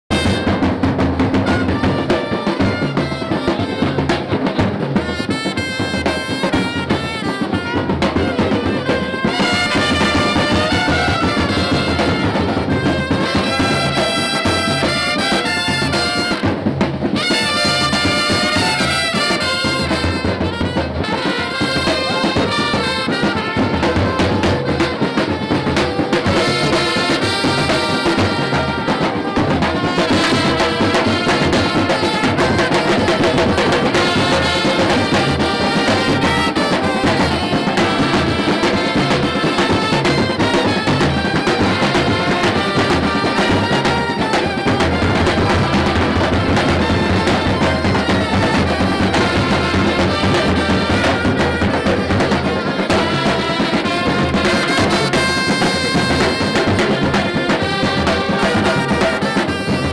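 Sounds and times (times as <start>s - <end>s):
bass drum beat: 0.1s - 59.9s
trumpets playing melody: 0.1s - 59.9s.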